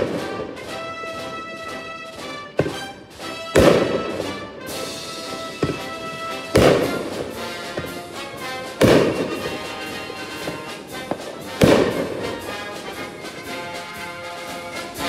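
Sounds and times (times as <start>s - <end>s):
background music: 0.0s - 15.0s
firework shells booming: 0.0s - 15.0s.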